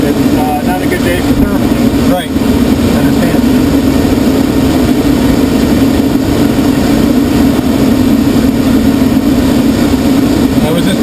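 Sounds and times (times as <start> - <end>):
air rushing over canopy: 0.0 - 11.0
propeller engine droning: 0.0 - 11.0.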